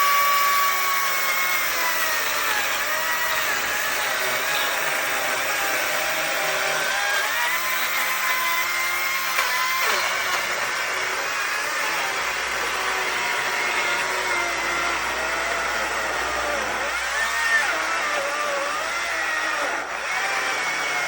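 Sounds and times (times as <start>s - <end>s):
power saw cutting wood: 0.0s - 21.0s.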